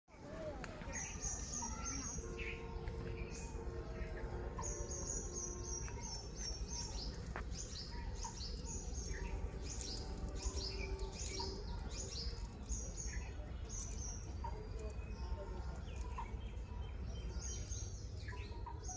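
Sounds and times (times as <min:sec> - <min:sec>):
low background noise: 0:00.1 - 0:18.9
small birds chirping: 0:00.1 - 0:18.9.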